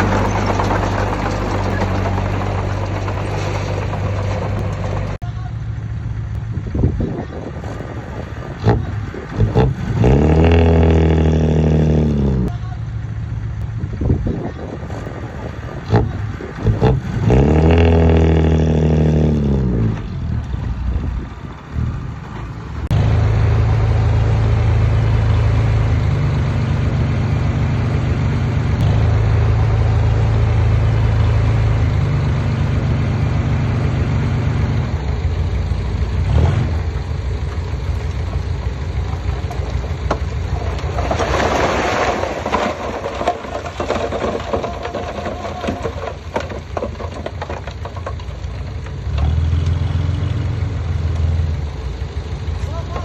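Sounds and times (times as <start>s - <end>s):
heavy diesel engine revving: 0.0s - 46.5s, 48.9s - 53.0s.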